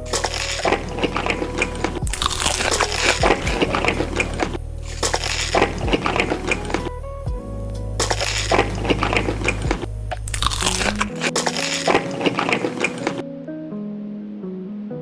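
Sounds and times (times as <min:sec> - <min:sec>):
crunchy food being chewed: 0:00.0 - 0:06.9, 0:08.0 - 0:13.2.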